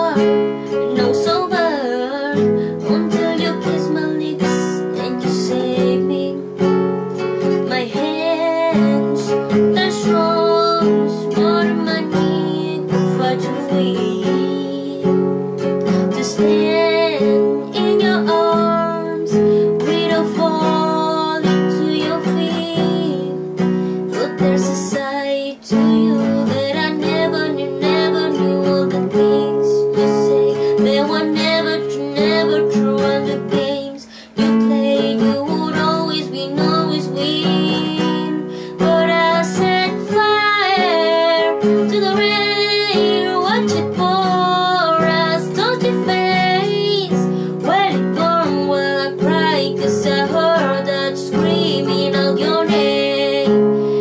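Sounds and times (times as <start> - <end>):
strummed acoustic guitar: 0.0 - 54.0
woman singing a ballad: 0.0 - 54.0.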